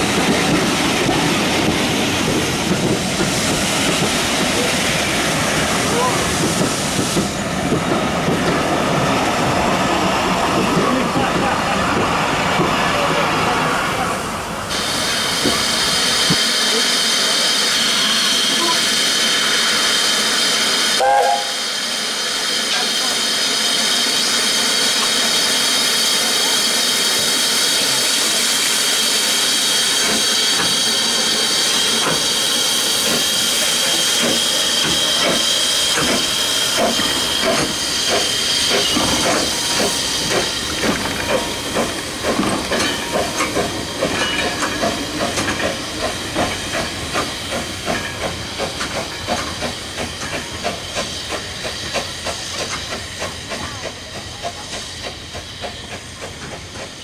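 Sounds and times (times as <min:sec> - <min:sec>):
steam locomotive exhaust beats: 0:00.0 - 0:13.2, 0:14.2 - 0:57.0
steam hissing from locomotive: 0:00.0 - 0:57.0.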